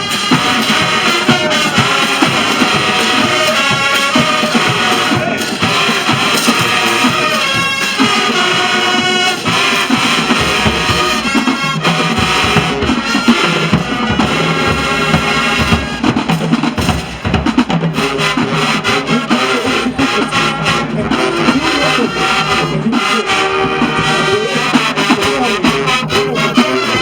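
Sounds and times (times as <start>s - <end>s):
marching band playing: 0.0s - 27.0s
steady drum beat: 0.0s - 27.0s.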